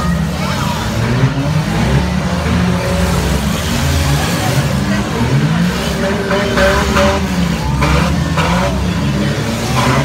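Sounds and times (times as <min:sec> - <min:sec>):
car engines revving hard: 0:00.0 - 0:10.0.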